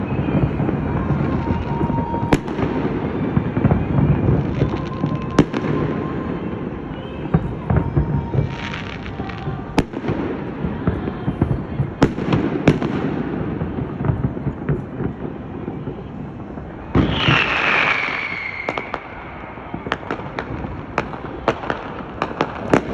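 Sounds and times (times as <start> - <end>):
crackling firework showers: 0.0 - 22.9
firework bangs: 0.0 - 22.9.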